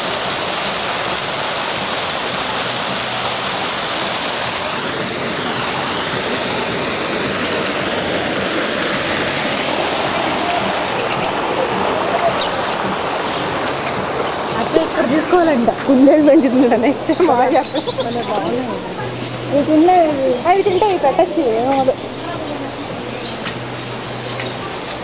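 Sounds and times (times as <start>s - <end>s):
waterfall splashing rush: 0.0s - 25.0s.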